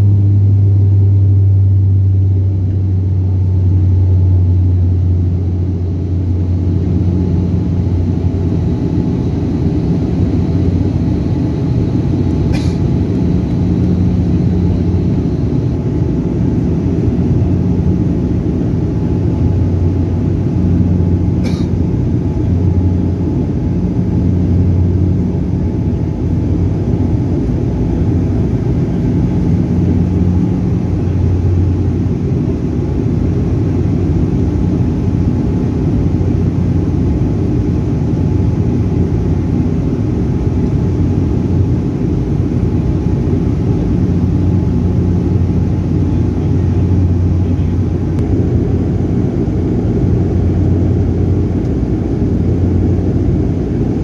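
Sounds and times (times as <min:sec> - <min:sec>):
propeller and engine hum: 0:00.0 - 0:54.0.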